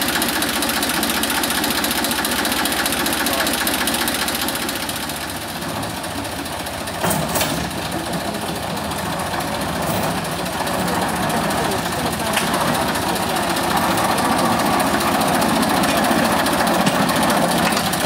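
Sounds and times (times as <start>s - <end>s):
locomotive engine running: 0.0s - 18.0s.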